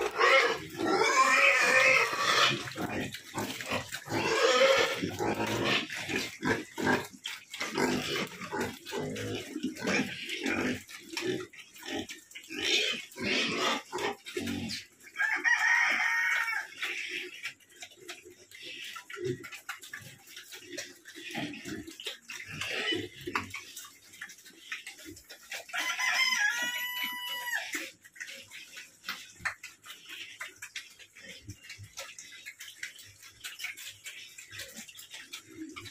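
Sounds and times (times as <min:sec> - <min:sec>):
pigs squealing: 0:00.0 - 0:17.6, 0:18.6 - 0:23.6, 0:24.2 - 0:32.4
pigs grunting and chewing: 0:00.0 - 0:35.9.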